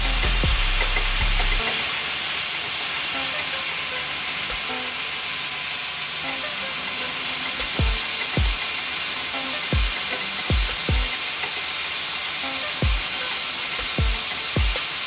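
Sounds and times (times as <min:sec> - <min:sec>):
angle grinder grinding metal disc: 0:00.0 - 0:15.0.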